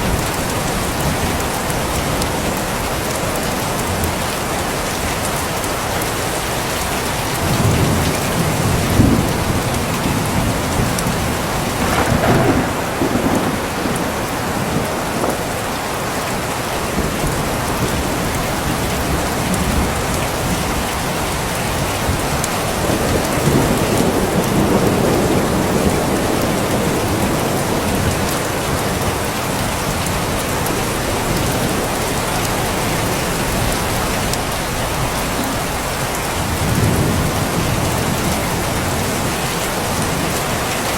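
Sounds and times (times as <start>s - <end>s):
heavy rain falling: 0.0s - 40.9s
thunder rumbling: 7.3s - 40.9s.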